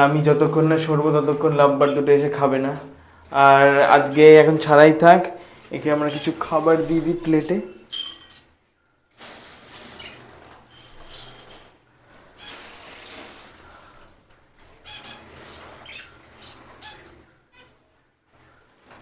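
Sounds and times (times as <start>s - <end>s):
soft rustling: 0.0s - 8.5s, 9.1s - 17.4s
small birds chirping: 0.0s - 8.6s, 9.7s - 11.6s, 12.2s - 17.8s.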